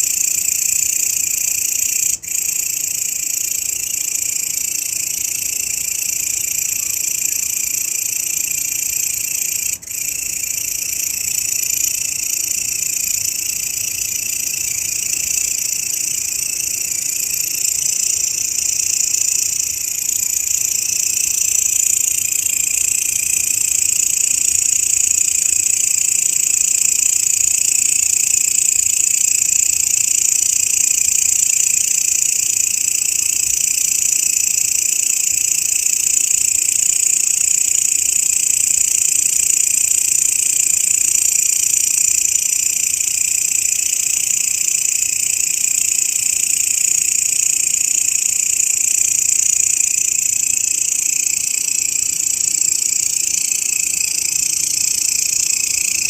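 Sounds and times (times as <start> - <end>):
grasshopper stridulating: 0.0 - 56.0.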